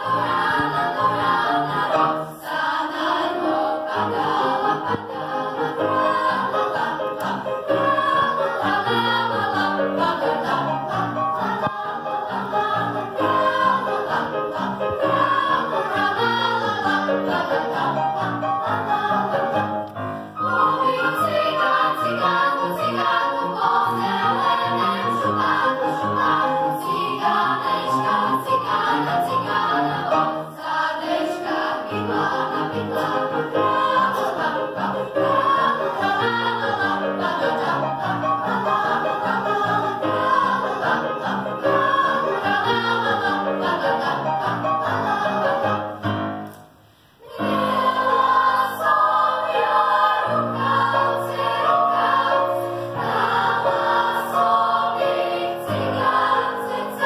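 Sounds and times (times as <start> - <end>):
children's choir singing: 0.0 - 46.4, 47.2 - 57.0
grand piano: 0.0 - 57.0.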